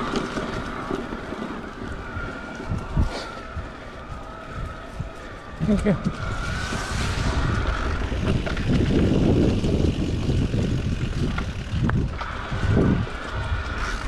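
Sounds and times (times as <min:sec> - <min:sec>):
bike tyres rumbling over dirt: 0:00.0 - 0:14.0
faint steady whine: 0:00.0 - 0:14.0
wind rushing past microphone: 0:00.0 - 0:14.0.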